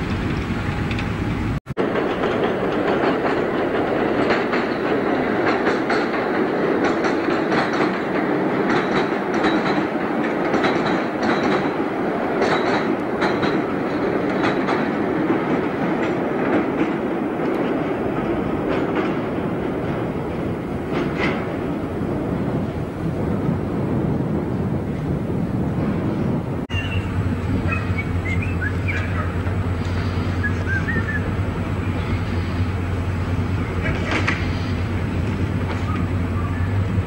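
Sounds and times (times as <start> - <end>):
electric train rumbling: 0.0 - 37.0
wheels clattering over rail joints: 0.0 - 37.0.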